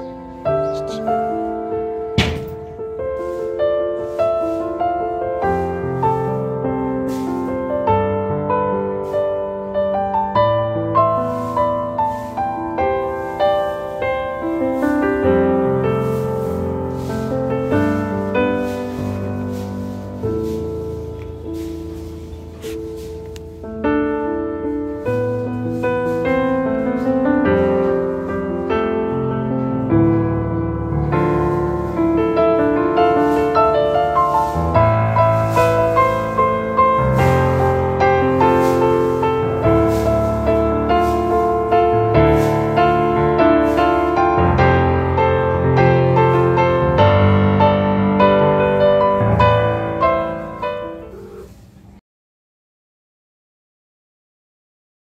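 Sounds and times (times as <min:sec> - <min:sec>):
piano music: 0:00.0 - 0:51.8.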